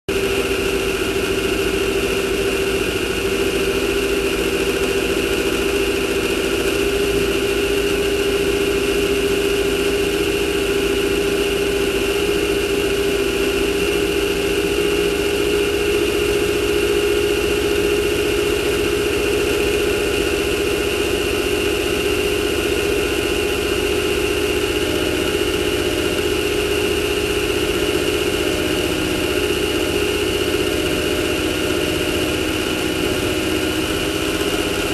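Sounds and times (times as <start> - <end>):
race car engine running: 0.1 - 34.9
steady high whine: 0.1 - 34.9.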